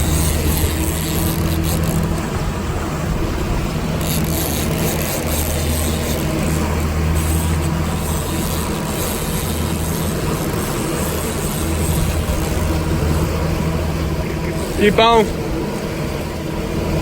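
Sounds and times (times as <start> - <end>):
outboard motor running: 0.0 - 17.0
rush of water: 0.0 - 17.0.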